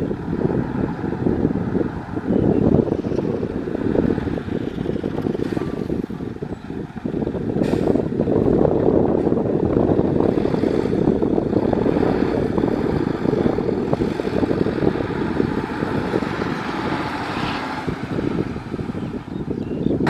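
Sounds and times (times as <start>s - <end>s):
construction machine engine rumbling: 0.0s - 20.0s.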